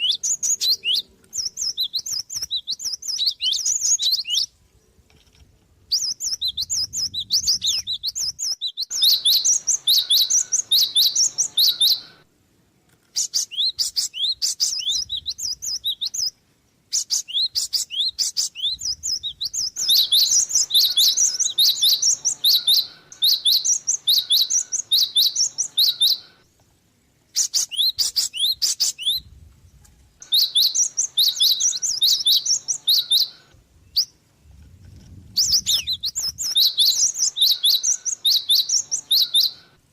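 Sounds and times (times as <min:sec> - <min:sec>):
sparrow chirping: 0:00.0 - 0:04.9, 0:05.9 - 0:12.2, 0:13.1 - 0:26.5, 0:27.3 - 0:39.8.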